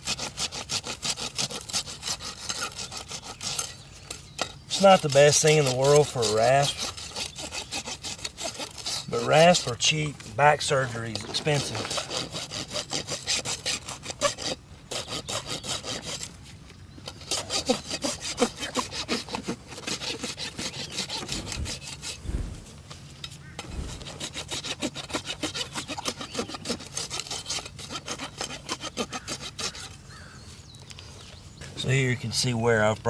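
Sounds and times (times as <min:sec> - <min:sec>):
hoof rasp scraping: 0:00.0 - 0:31.9.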